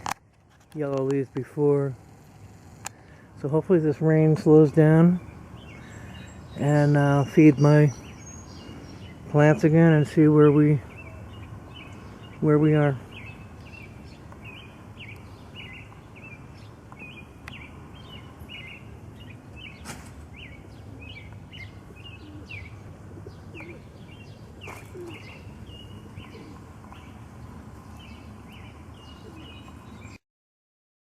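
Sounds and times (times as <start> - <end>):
small birds chirping: 0.0 - 30.2.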